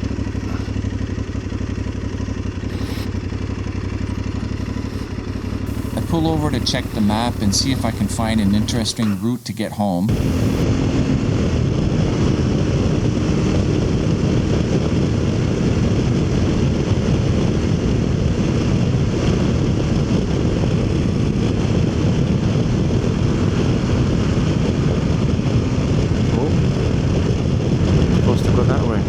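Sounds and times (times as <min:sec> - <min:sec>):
motorcycle engine running: 0:00.0 - 0:29.0
wind rush on microphone: 0:02.6 - 0:29.0.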